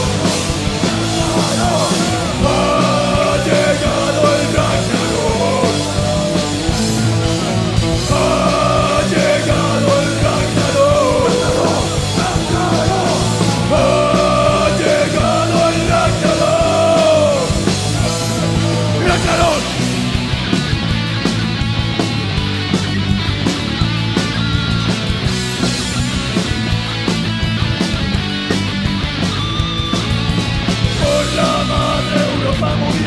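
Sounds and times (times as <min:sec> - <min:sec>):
bending melodic guitar line: 0:00.0 - 0:32.8
heavy metal band playing live: 0:00.0 - 0:33.0.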